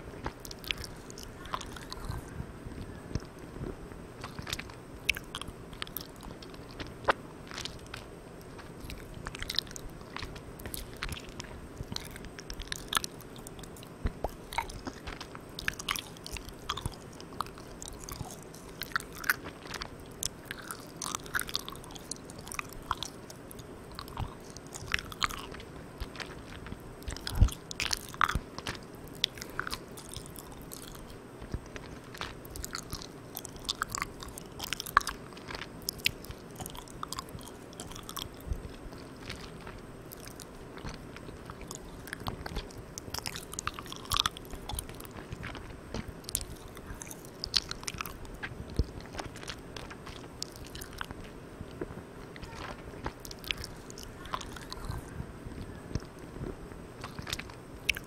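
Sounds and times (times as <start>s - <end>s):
microphone hiss: 0.0s - 58.0s
chewing mouth sounds: 0.2s - 3.6s, 4.2s - 58.0s.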